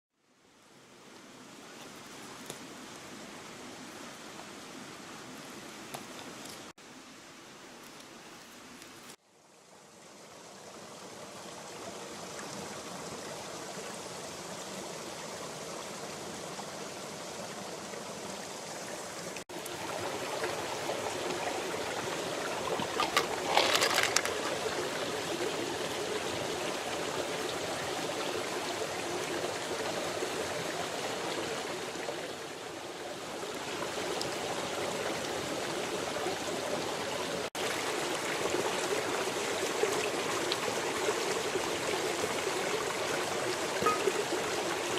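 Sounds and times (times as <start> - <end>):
small stream flowing: 0.1 - 44.9.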